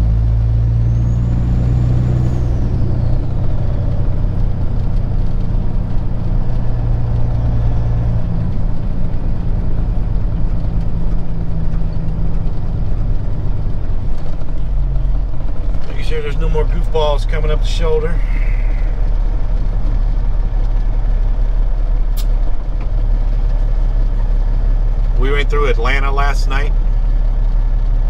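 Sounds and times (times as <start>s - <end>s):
truck diesel engine running: 0.0s - 28.0s
tyre and road noise: 0.0s - 28.0s.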